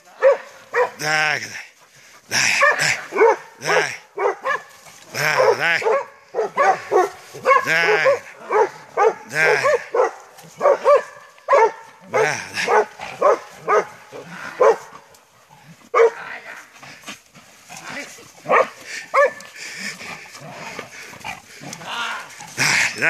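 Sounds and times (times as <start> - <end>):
dogs barking: 0.0 - 1.6, 2.2 - 16.2, 17.8 - 23.0.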